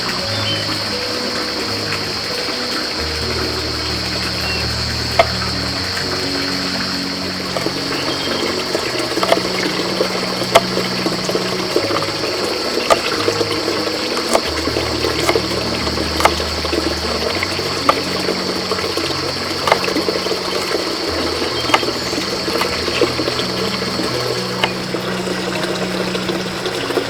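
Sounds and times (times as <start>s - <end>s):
running splashing water: 0.0s - 27.0s
soft background music: 0.0s - 27.0s.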